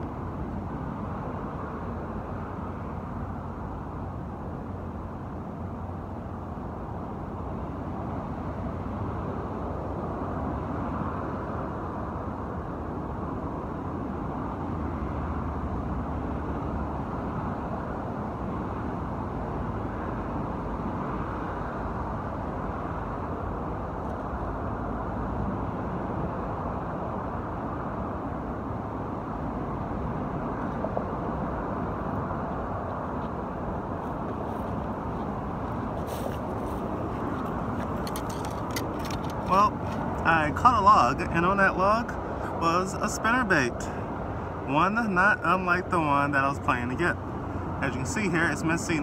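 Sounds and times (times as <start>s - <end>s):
highway traffic noise: 0.0s - 49.0s.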